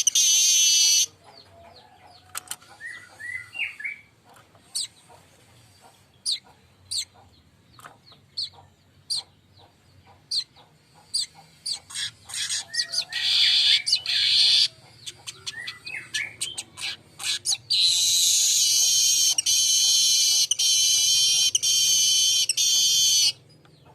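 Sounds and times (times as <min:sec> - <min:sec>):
bird chip notes and buzzy song: 0:00.0 - 0:01.2, 0:05.6 - 0:23.9.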